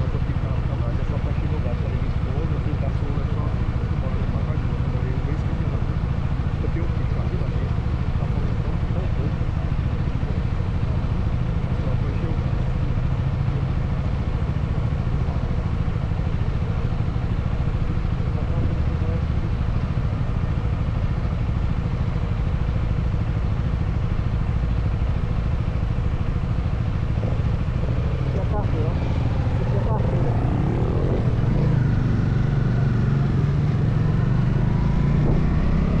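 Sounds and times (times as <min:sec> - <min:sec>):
motorcycle engine rumbling: 0:00.0 - 0:36.0.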